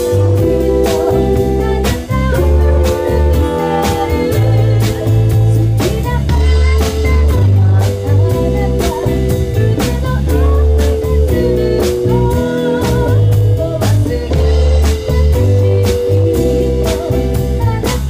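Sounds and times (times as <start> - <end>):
drum kit steady beat: 0.0 - 18.0
electric guitars: 0.0 - 18.0
keyboard: 0.0 - 18.0
saxophone: 0.0 - 18.0.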